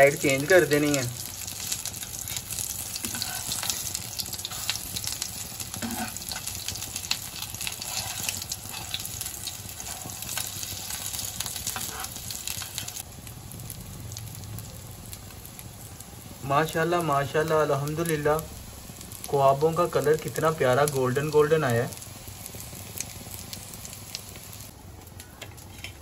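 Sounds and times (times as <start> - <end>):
food shallow-frying with fine crackle: 0.0 - 26.0.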